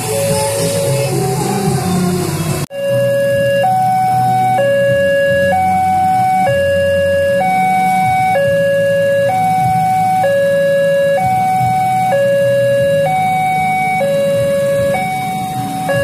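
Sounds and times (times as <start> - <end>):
low traffic rumble: 0.0 - 16.0
two-tone crossing alarm: 0.0 - 16.0.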